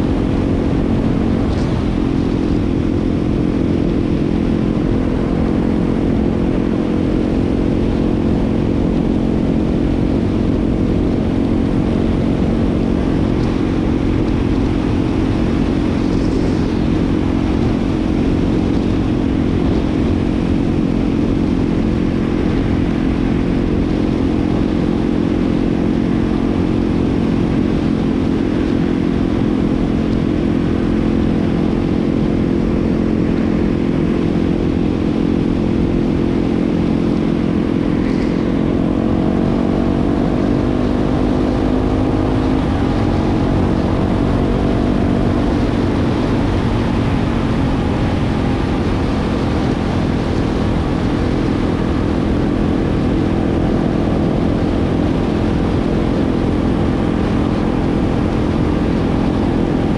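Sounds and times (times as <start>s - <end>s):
motorcycle engine running steadily: 0.0s - 59.9s.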